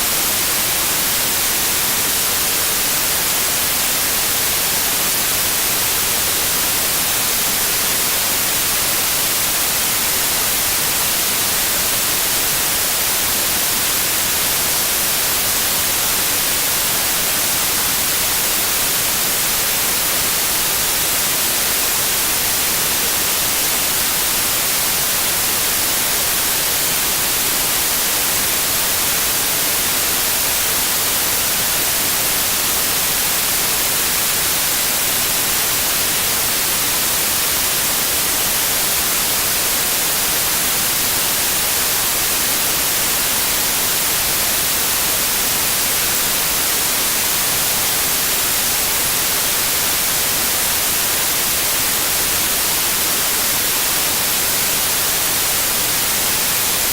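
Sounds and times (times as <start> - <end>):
white noise hiss: 0.0 - 56.9.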